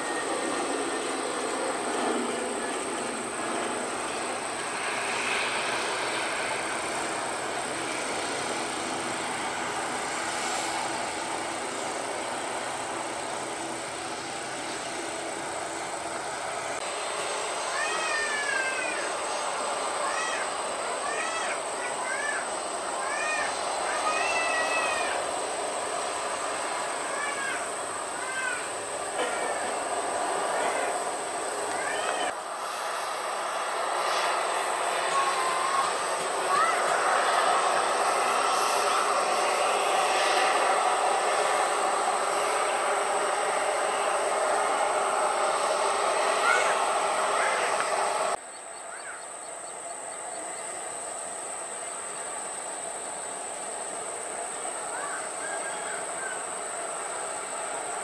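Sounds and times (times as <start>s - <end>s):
high engine whine: 0.0s - 58.0s
jet engine roar: 0.0s - 58.0s
steady background hiss: 0.0s - 58.0s.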